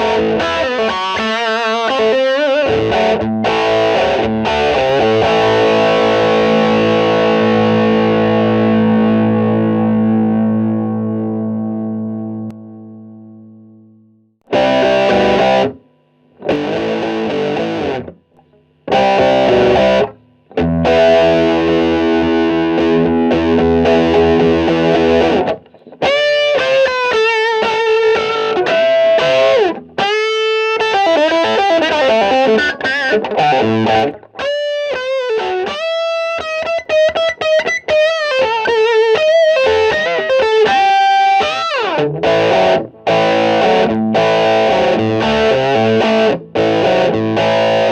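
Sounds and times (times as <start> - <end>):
distorted electric guitar: 0.0 - 47.9.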